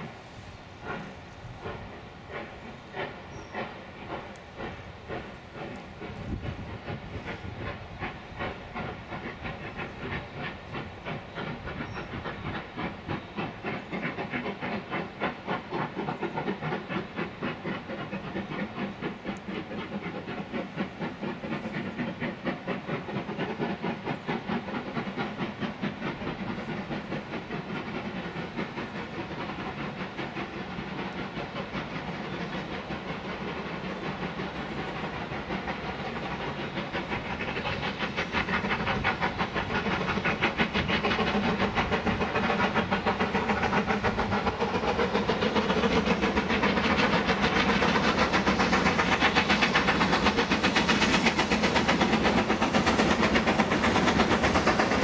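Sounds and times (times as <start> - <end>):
steam locomotive exhaust beats: 0.0 - 55.0.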